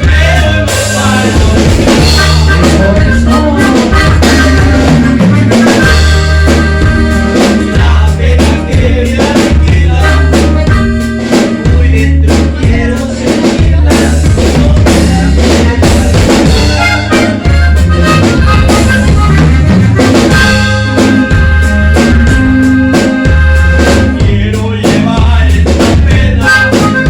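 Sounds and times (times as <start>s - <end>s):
drum kit beat: 0.0s - 27.0s
heavy bass line: 0.0s - 27.0s.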